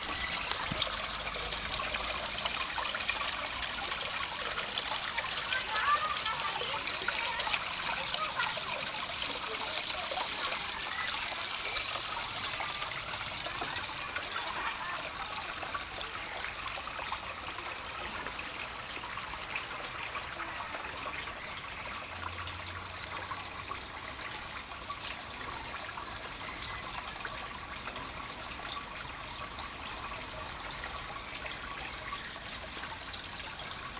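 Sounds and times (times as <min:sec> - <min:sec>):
water trickling into a pond: 0:00.0 - 0:33.9.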